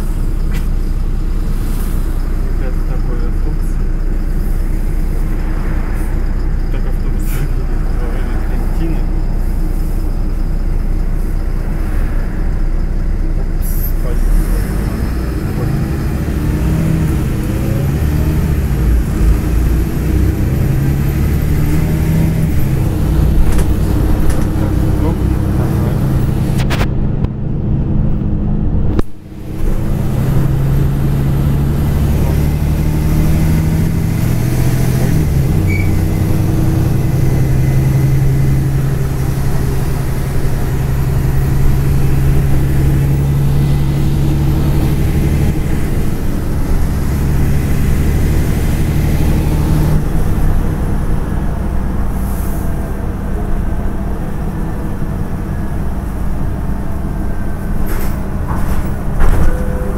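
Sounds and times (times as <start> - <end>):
bus diesel engine drone: 0.0 - 59.9
road and body noise: 0.0 - 59.9.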